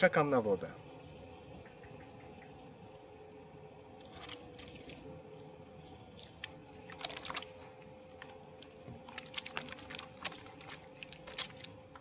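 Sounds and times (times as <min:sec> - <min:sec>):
electric water pump humming: 0:00.1 - 0:12.0.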